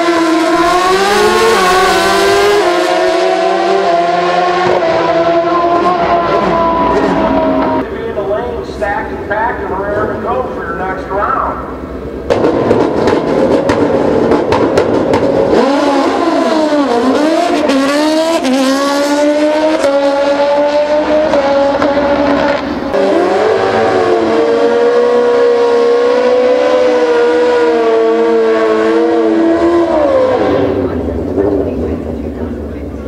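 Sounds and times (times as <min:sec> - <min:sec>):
motorcycle engine at high revs: 0:00.0 - 0:07.8, 0:12.3 - 0:32.4
motorcycle engine revving and upshifting: 0:00.0 - 0:07.8, 0:12.3 - 0:32.8.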